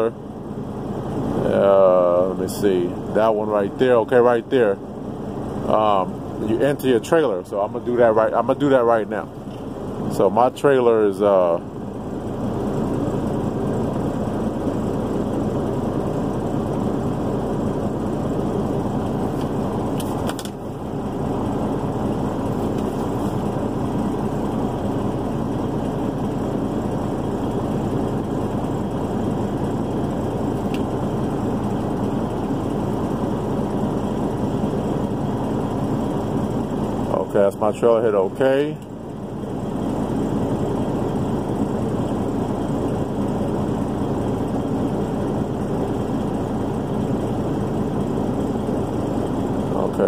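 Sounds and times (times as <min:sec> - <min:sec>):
diesel truck engine idling: 0:00.0 - 0:50.0.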